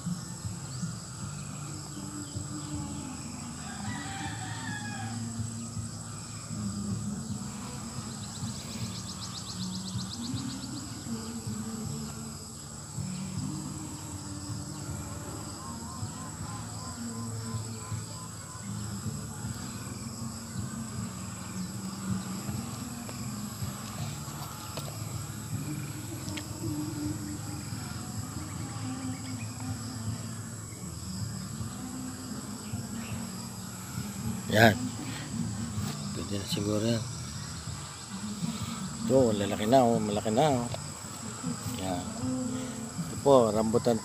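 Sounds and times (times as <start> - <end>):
insect ticking trill: 0.0 - 44.0
insects droning: 0.0 - 44.0.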